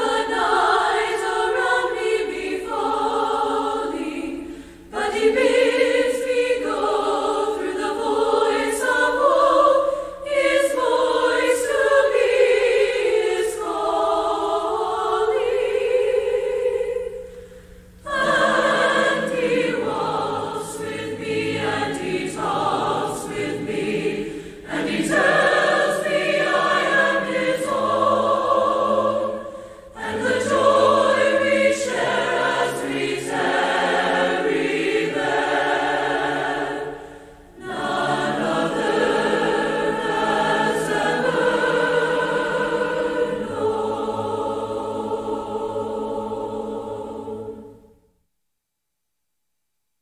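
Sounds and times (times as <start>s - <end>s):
choir singing: 0.0s - 48.1s.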